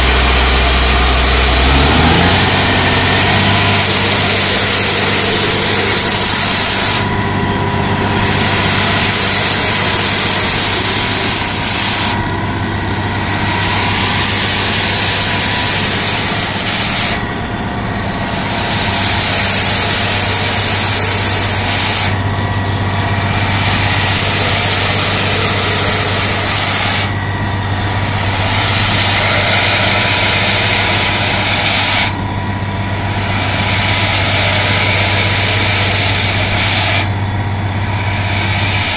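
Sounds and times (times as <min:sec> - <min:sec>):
loud hiss: 0:00.0 - 0:07.2, 0:07.8 - 0:17.3, 0:18.2 - 0:22.2, 0:22.8 - 0:27.2, 0:27.8 - 0:32.2, 0:33.1 - 0:37.1, 0:37.8 - 0:38.9
diesel engine running: 0:00.0 - 0:38.9.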